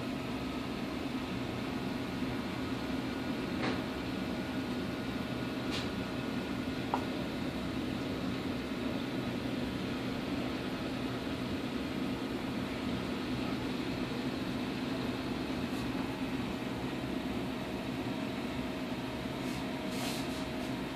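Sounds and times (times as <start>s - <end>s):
mechanical hum with hiss: 0.0s - 20.9s.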